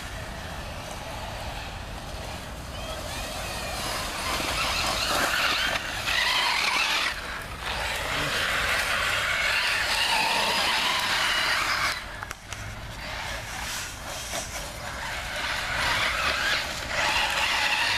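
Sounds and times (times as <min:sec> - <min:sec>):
rc car tyres skidding on gravel: 0:00.0 - 0:17.9.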